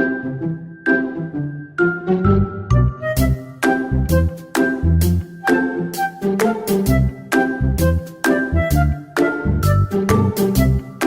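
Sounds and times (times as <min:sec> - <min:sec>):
music with bell-like notes and bass: 0:00.0 - 0:06.1, 0:06.8 - 0:11.0.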